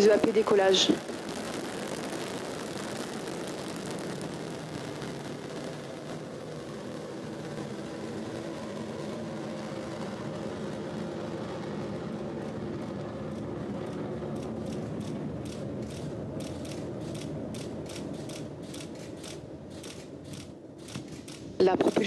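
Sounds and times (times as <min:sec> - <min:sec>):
rocket exhaust rumbling: 0:00.0 - 0:22.0
sharp crackles: 0:00.0 - 0:22.0.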